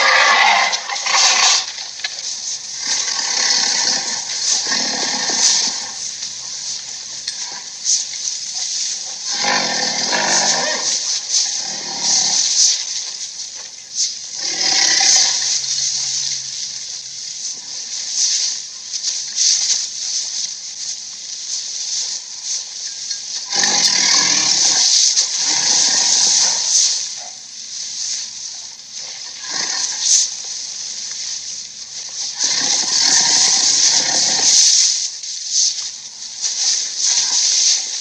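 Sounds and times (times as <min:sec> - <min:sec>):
harsh noisy ape roar surges: 0:00.0 - 0:13.6, 0:14.2 - 0:20.3, 0:22.0 - 0:31.4, 0:32.0 - 0:35.2
steady hiss: 0:00.0 - 0:38.0.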